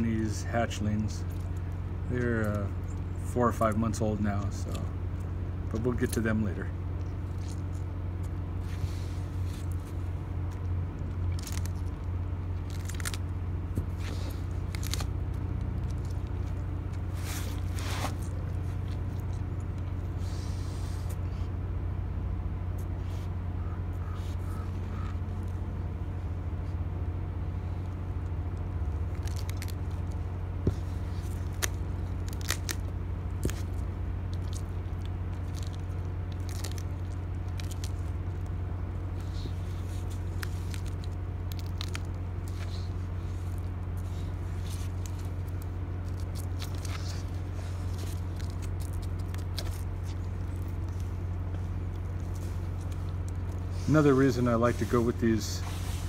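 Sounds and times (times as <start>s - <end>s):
steady low hum: 0.0s - 56.0s
tortoise crunching cactus: 0.0s - 56.0s.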